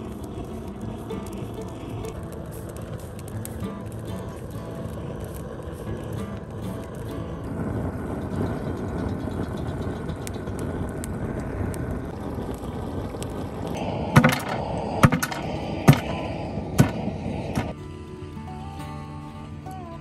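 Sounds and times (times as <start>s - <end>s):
steady rushing noise: 0.0s - 17.8s.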